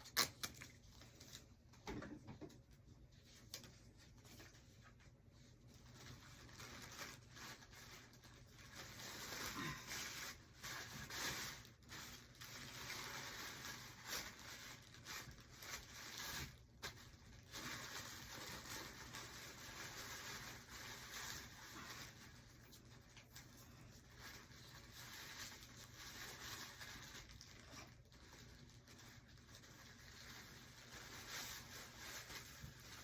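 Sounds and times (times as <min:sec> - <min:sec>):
shirts and packaging rustling: 0:00.1 - 0:33.0.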